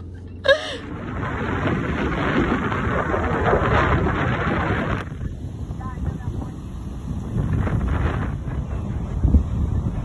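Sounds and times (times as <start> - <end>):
wind buffeting microphone: 0.7 - 10.0
surf breaking: 0.9 - 10.0.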